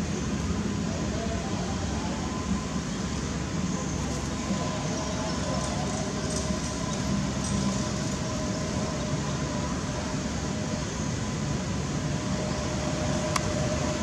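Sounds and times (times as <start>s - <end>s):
distant road traffic rumble: 0.0s - 14.0s
outdoor hiss: 0.0s - 14.0s.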